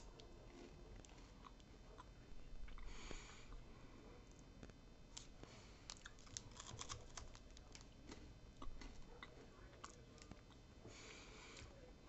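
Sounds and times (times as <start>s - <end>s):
faint crunching of chocolate bar chewing: 0.0s - 3.2s, 4.2s - 11.8s.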